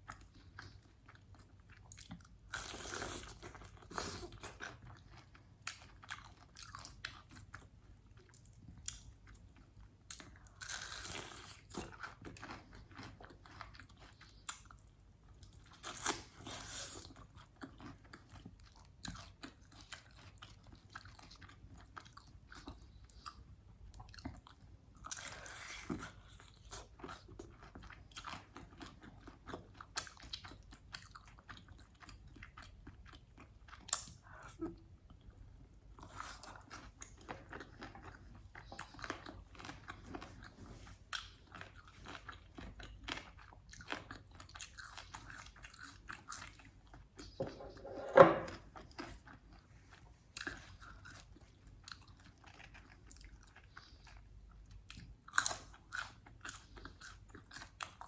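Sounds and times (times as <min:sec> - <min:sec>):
chewing: 0:00.0 - 0:35.2, 0:35.9 - 0:58.0.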